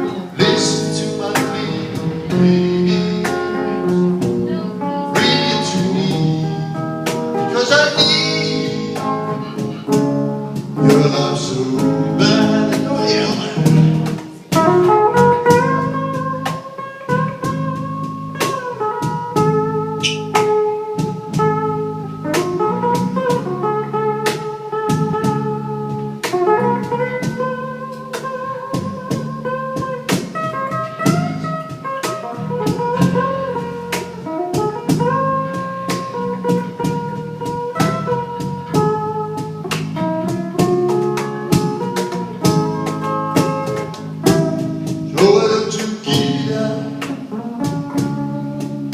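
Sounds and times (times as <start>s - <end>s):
bass: 0.0s - 48.9s
lead guitar melody: 0.0s - 48.9s
steady drum beat: 0.0s - 48.9s.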